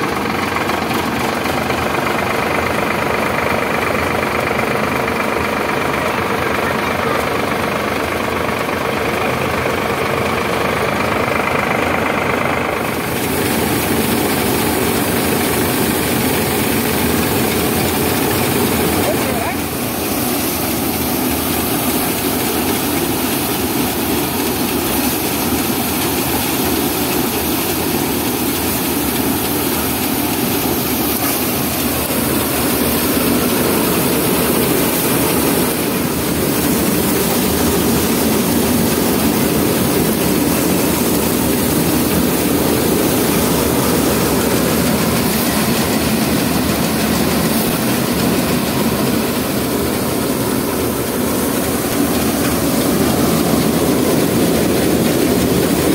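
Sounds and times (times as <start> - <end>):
thresher running: 0.0 - 55.9
tractor engine: 0.0 - 55.9.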